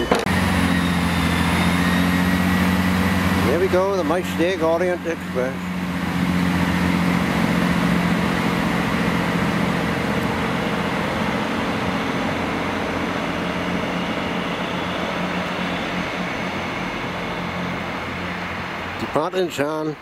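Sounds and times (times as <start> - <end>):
diesel train engines droning: 0.0 - 20.0
train running noise: 0.0 - 20.0.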